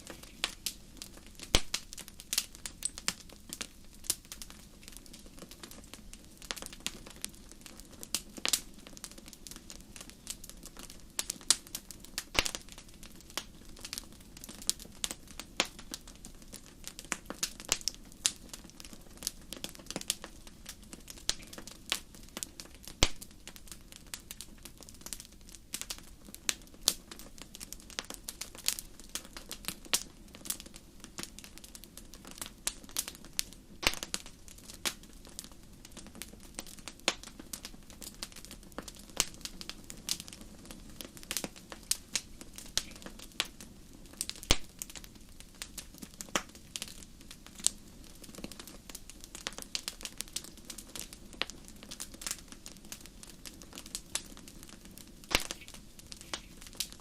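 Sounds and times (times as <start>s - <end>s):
soft steady hiss: 0.0s - 57.0s
wood fire crackling: 0.0s - 57.0s.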